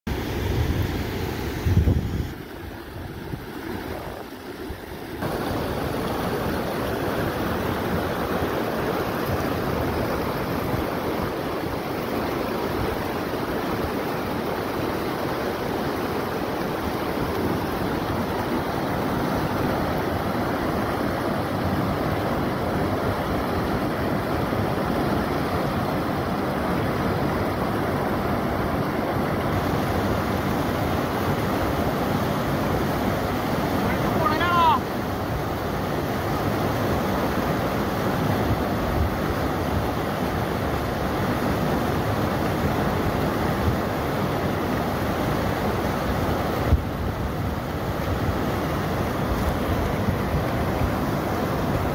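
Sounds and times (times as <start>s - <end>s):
river water rushing over rapids: 0.1s - 51.9s.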